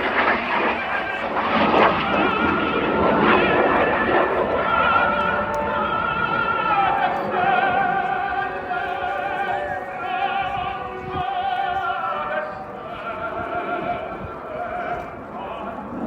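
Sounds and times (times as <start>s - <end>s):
operatic singing with vibrato: 0.0s - 16.0s.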